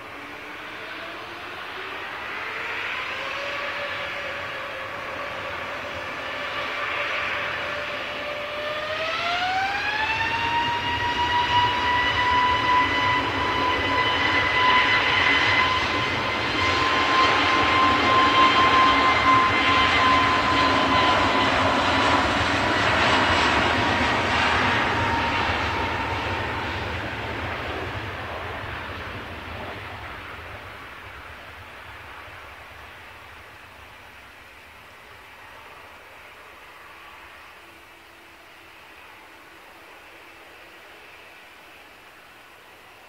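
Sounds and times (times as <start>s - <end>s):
jet engine roar: 0.0s - 43.0s
jet engine whine: 0.0s - 43.0s.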